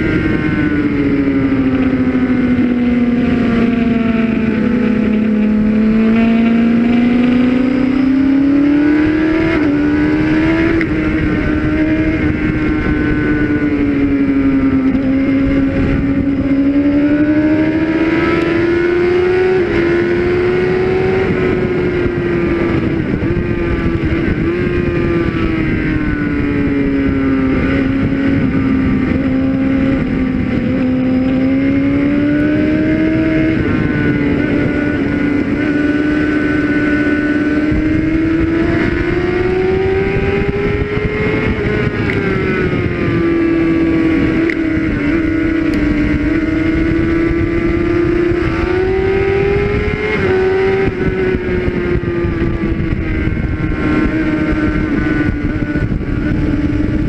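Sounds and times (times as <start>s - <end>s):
motorcycle engine at high revs: 0.0s - 57.0s
wind noise: 0.0s - 57.0s.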